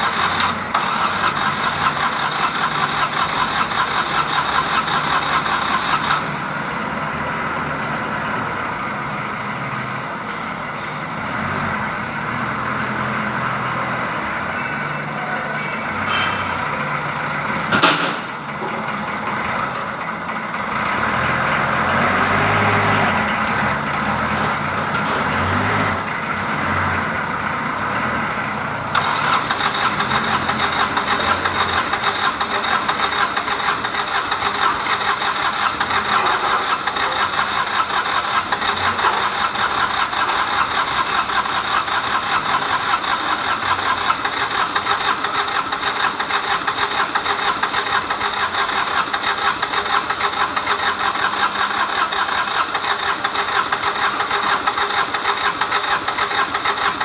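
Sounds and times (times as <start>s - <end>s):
diesel engine clattering: 0.0s - 57.0s.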